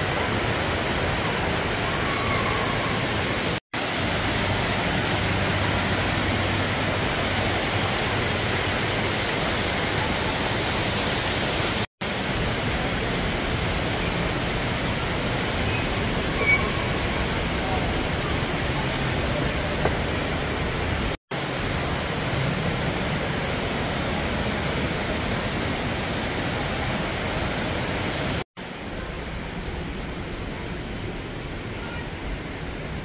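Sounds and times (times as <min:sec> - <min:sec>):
waterfall rushing over rocks: 0:00.0 - 0:33.0.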